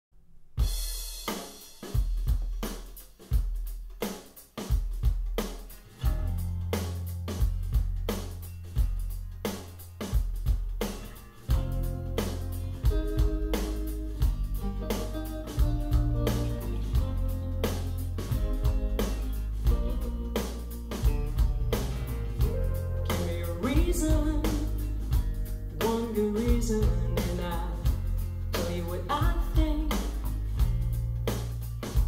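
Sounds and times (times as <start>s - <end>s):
drum-kit beat: 0.5s - 32.0s
bass line: 6.0s - 32.0s.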